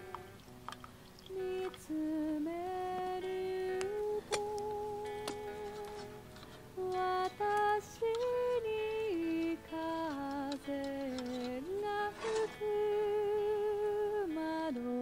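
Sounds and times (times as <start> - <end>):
slow gentle background music: 0.0 - 15.0.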